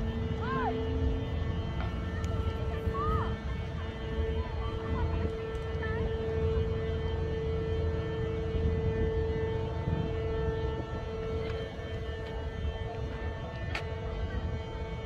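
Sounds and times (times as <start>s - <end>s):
lifting bridge hum: 0.0s - 15.0s
low rumble: 0.0s - 15.0s.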